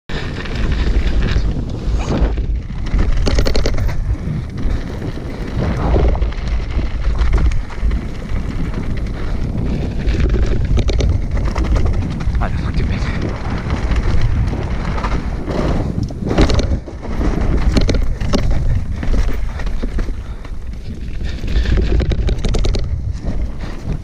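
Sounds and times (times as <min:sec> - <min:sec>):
bike clattering over bumps: 0:00.1 - 0:24.0
tyres on gravel: 0:00.1 - 0:24.0
wind on microphone: 0:00.1 - 0:24.0.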